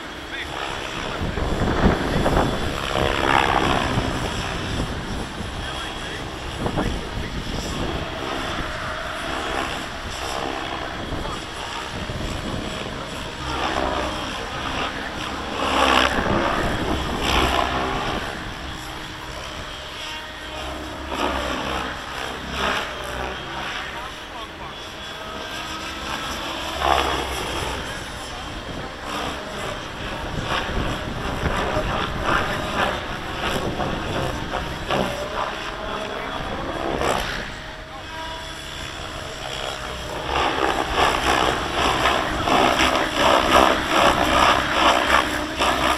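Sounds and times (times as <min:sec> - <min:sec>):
rc helicopter motor whine: 0:00.0 - 0:45.9
wind buffeting microphone: 0:00.0 - 0:45.9.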